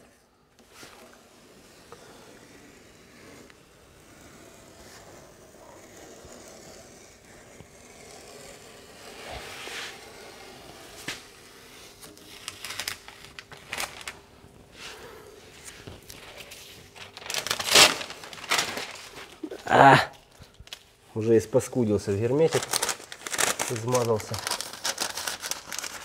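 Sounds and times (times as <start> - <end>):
tape peeling rustle: 0.6 - 14.9, 15.6 - 21.0, 22.2 - 26.0.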